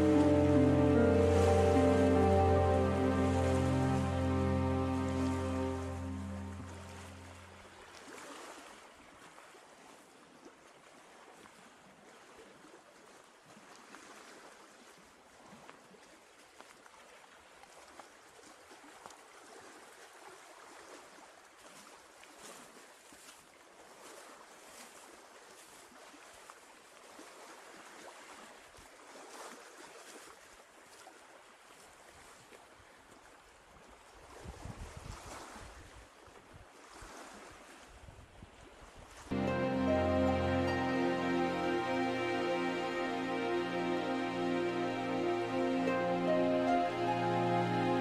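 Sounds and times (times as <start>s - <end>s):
small waves lapping: 0.0s - 48.0s.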